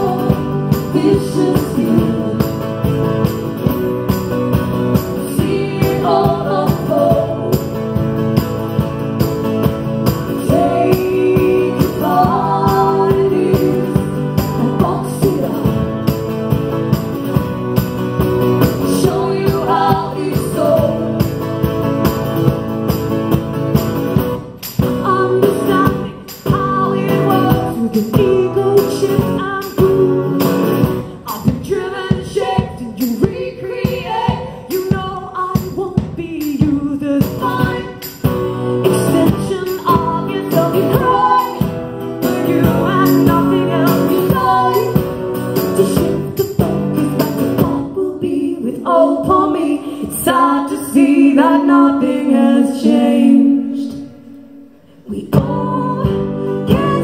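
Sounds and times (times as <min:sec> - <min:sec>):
women singing: 0:00.0 - 0:08.9, 0:10.0 - 0:16.2, 0:18.5 - 0:21.6, 0:24.9 - 0:57.0
acoustic guitars strummed: 0:00.0 - 0:57.0.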